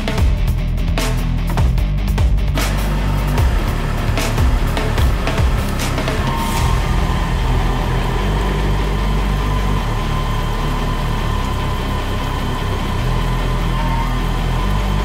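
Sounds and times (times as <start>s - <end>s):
milling machine motor hum: 2.5s - 15.0s
thin steady whine: 2.6s - 15.0s
drill bit cutting steel: 2.7s - 15.0s.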